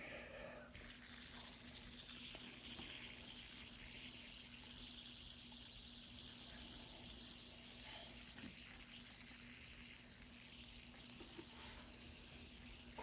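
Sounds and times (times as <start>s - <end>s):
fidget spinner whirring: 0.7s - 13.0s.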